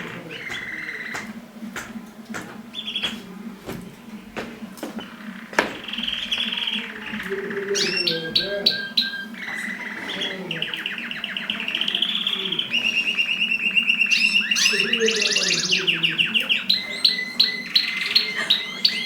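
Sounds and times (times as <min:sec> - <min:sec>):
canary singing fast trills: 0:00.0 - 0:01.4, 0:05.1 - 0:19.0.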